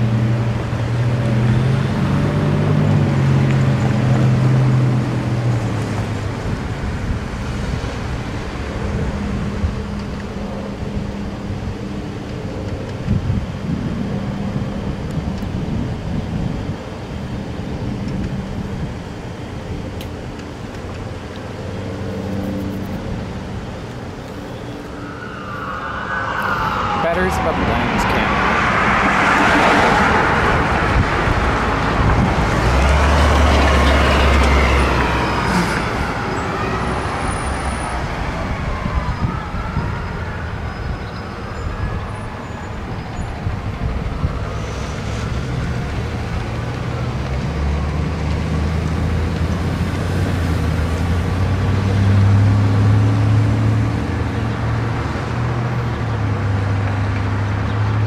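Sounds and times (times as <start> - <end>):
emergency vehicle siren wailing: 0.0 - 58.0
heavy engine hum: 0.0 - 58.0
vehicle engines passing: 0.0 - 58.0.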